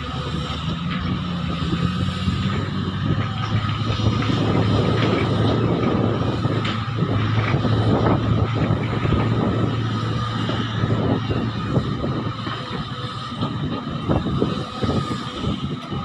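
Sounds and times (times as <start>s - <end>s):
diesel engine drone: 0.0s - 16.0s
high machine whine: 0.0s - 16.0s.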